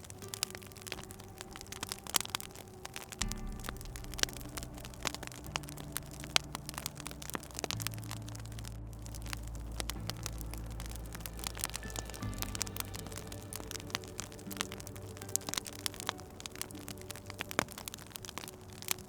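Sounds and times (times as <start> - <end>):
low humming drone: 0.0 - 19.0
wood fire crackling: 0.0 - 19.0.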